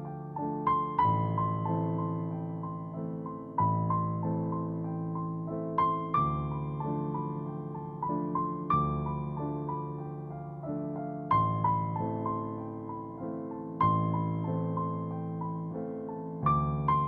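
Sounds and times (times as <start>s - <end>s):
deep piano notes: 0.0s - 17.0s
soft piano melody: 0.0s - 17.0s.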